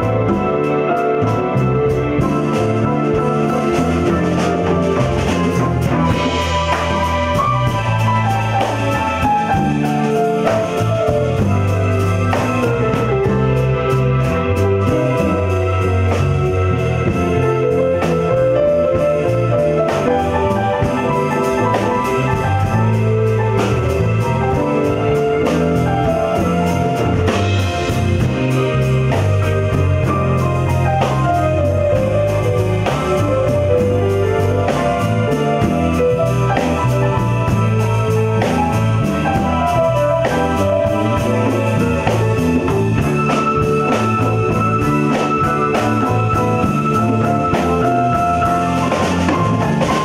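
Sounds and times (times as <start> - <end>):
live band playing: 0.0 - 50.0.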